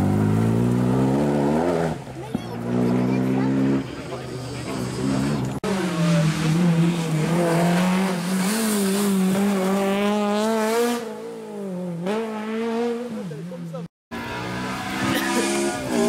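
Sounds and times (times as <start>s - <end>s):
rally car engine revving: 0.0s - 16.0s
second rally car approaching: 0.0s - 16.0s.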